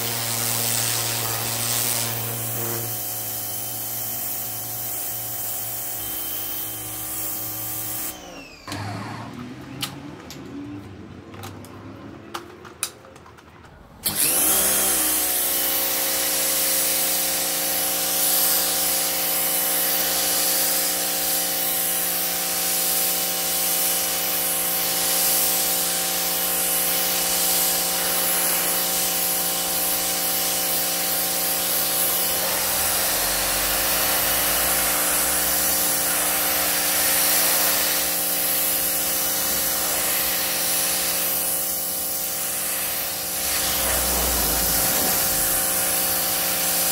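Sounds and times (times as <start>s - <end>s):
water jet hissing on stone: 0.0s - 8.2s, 14.5s - 46.9s
pressure washer pump humming: 0.0s - 9.2s, 14.0s - 46.9s.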